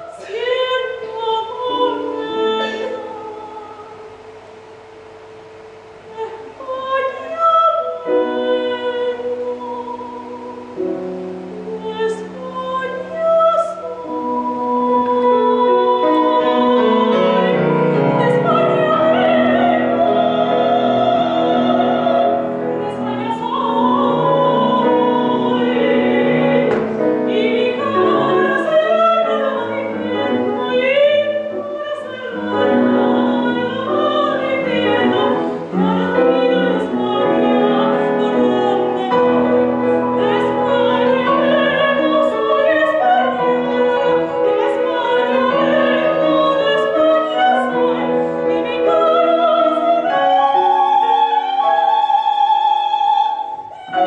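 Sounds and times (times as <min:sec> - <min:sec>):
soprano singing opera: 0:00.0 - 0:04.4, 0:06.0 - 0:54.0
grand piano: 0:00.0 - 0:54.0.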